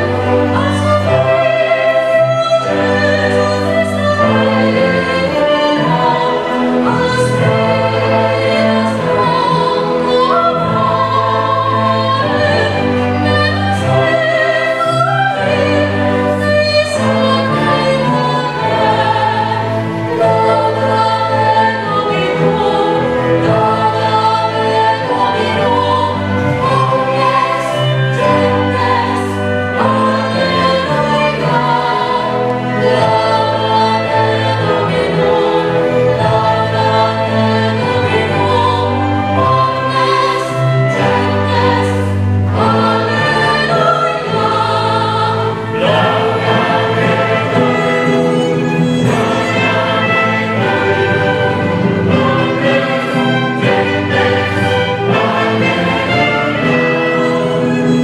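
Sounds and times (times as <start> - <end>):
choir singing with orchestra: 0.0 - 58.0
soprano soloist singing: 0.0 - 58.0.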